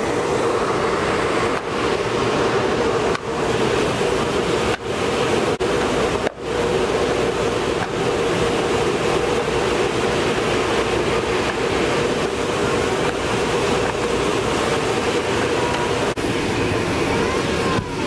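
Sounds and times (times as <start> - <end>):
steady hum: 0.0 - 18.0
vacuum rushing air: 0.0 - 18.0.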